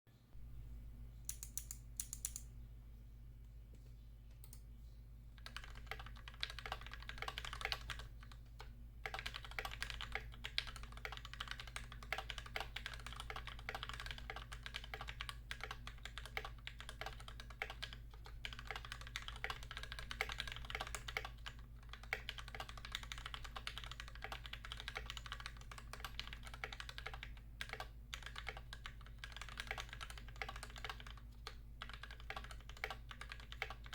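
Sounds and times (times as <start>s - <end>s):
fast typing on mechanical keyboard: 5.4s - 33.9s.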